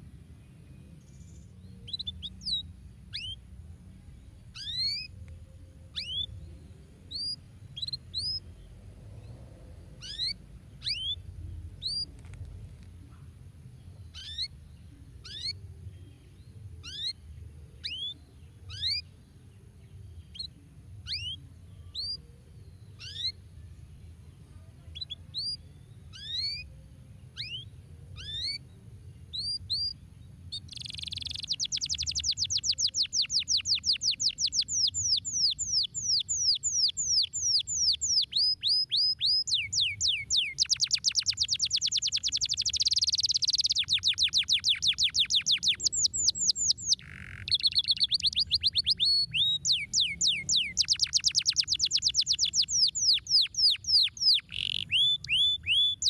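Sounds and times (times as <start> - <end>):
canary singing: 1.0 - 3.6, 4.2 - 12.3, 14.0 - 19.2, 19.9 - 23.5, 24.9 - 28.7, 29.3 - 56.0.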